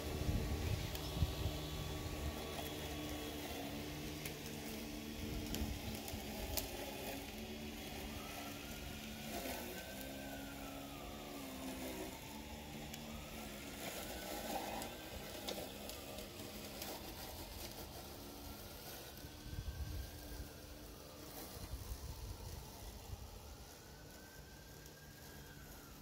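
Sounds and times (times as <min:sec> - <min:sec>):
high motor whine: 0:00.0 - 0:26.0.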